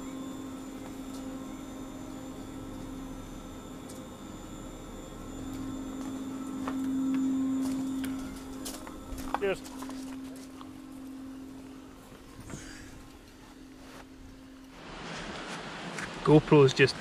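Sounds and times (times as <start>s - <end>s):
chairlift machinery humming: 0.0s - 17.0s.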